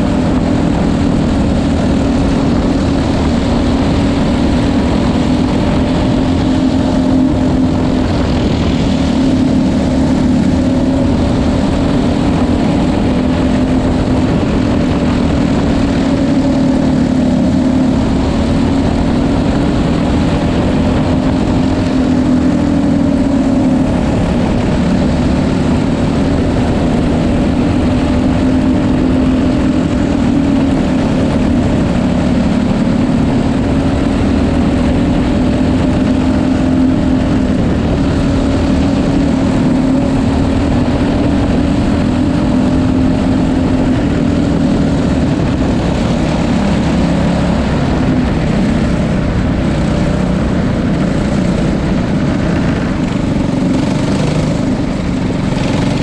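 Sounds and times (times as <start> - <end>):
kart engine running hard: 0.0 - 56.0.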